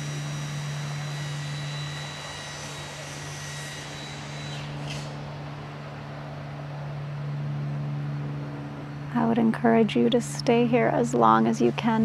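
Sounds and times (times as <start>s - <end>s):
faint high whine: 0.0s - 12.0s
steady low hum: 0.0s - 12.0s.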